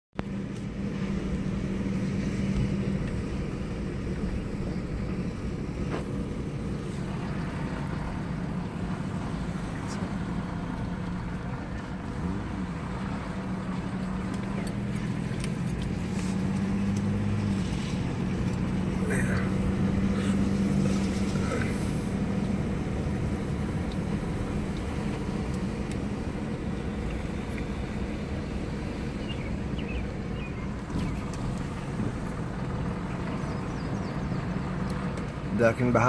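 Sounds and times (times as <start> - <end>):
car engine and tyre noise: 0.2 - 36.0.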